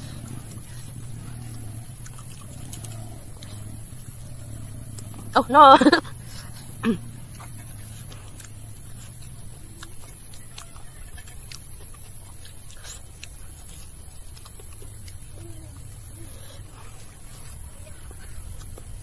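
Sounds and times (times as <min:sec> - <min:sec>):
low hum: 0:00.0 - 0:19.0
soft chewing: 0:00.0 - 0:19.0.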